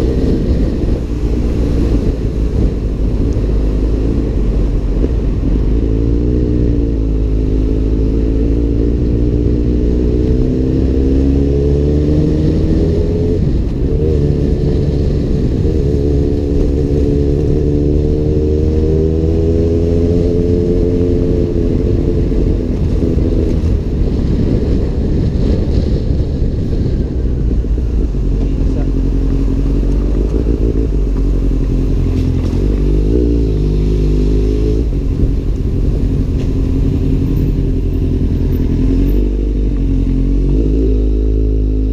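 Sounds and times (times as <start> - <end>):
motorcycle engine with exhaust: 0.0 - 41.9.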